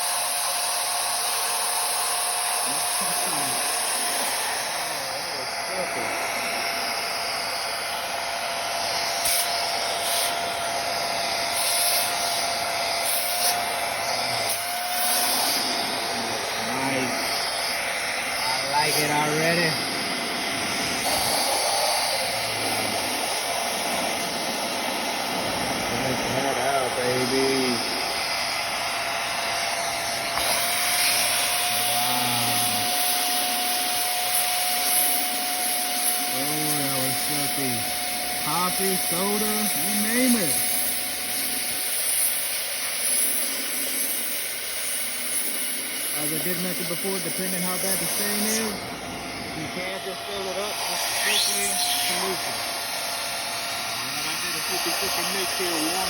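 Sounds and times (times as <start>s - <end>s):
upholstery cleaner motor whine: 0.0s - 56.0s
suction rushing hiss: 1.4s - 56.0s.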